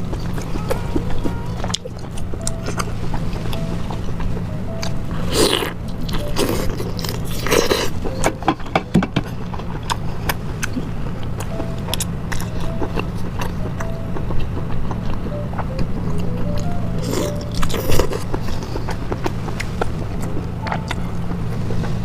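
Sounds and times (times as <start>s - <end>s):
person chewing juicy food: 0.0s - 22.0s
soft background music: 0.0s - 22.0s.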